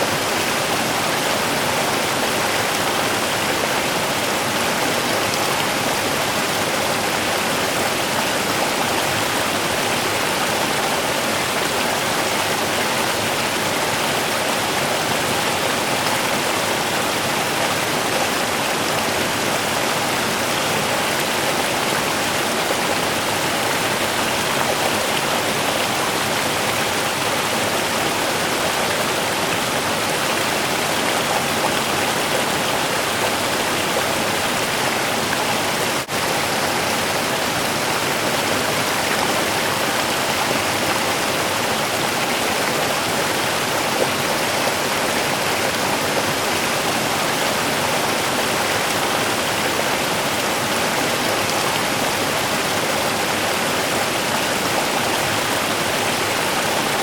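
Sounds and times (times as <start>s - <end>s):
river running over stones: 0.0s - 57.0s.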